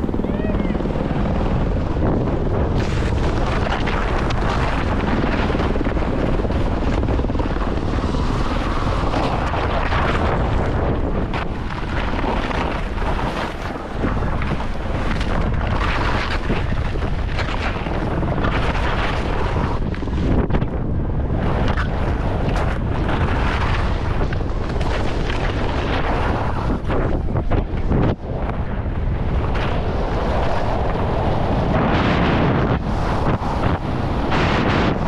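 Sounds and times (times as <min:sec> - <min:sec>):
helicopter rotor and engine: 0:00.0 - 0:35.0
wind on microphone: 0:00.0 - 0:35.0.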